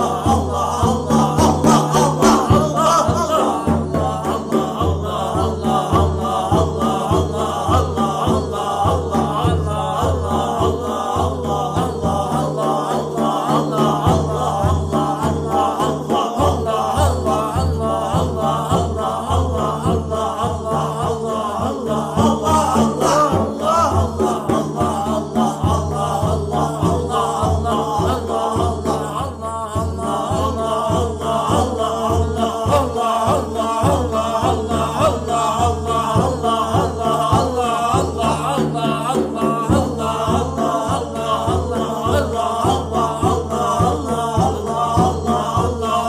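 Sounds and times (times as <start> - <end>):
voices chanting rhythmically: 0.0 - 46.0.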